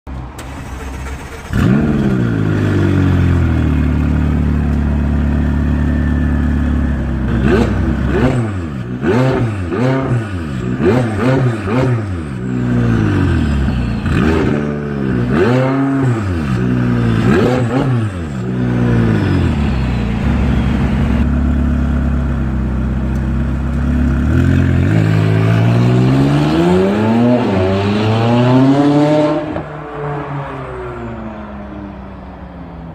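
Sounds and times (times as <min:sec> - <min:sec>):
car engine revving: 0:00.4 - 0:05.9, 0:07.2 - 0:22.3, 0:23.8 - 0:30.7.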